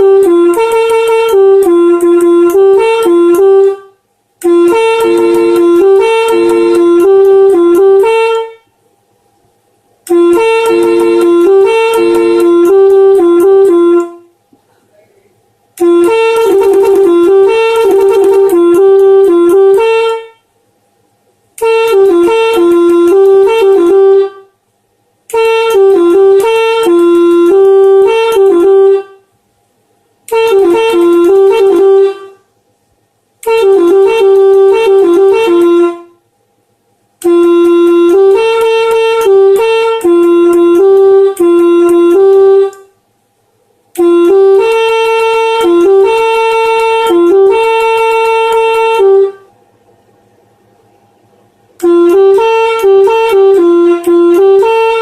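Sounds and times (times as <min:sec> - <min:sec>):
multi-tone air horn melodies: 0:00.0 - 0:08.8, 0:10.0 - 0:14.4, 0:15.8 - 0:20.6, 0:21.6 - 0:24.6, 0:25.3 - 0:29.3, 0:30.2 - 0:32.5, 0:33.4 - 0:36.2, 0:37.2 - 0:43.0, 0:43.9 - 0:49.6, 0:51.8 - 0:55.0.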